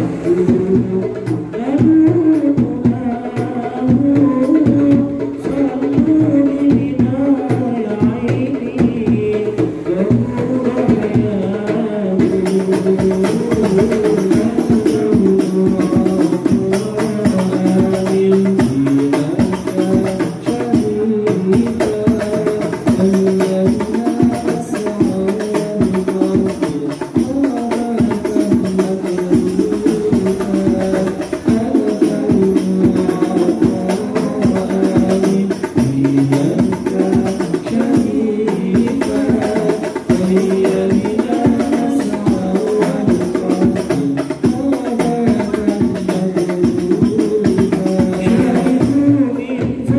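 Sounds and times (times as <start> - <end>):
bass drum: 0.0 - 49.9
frame drums beating: 0.0 - 49.9
man singing into microphone: 0.0 - 49.9.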